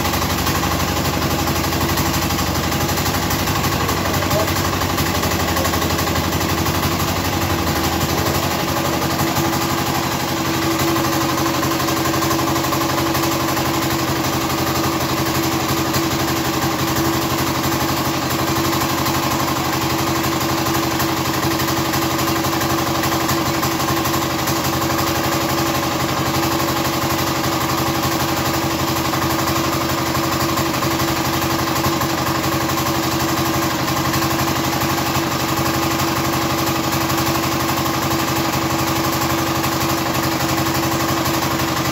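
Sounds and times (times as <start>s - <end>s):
small diesel engine running: 0.0s - 41.9s.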